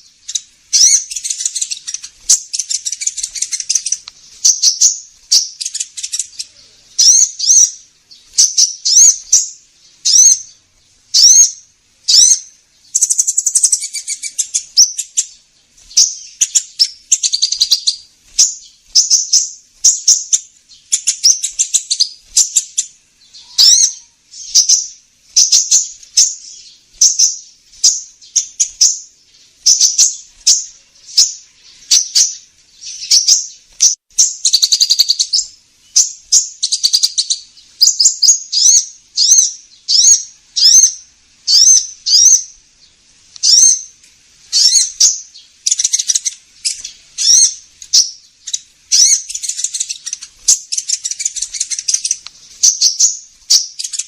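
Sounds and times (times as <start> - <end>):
buzzy bird trills: 0.0 - 54.0
high thin bird chirps: 0.0 - 54.0.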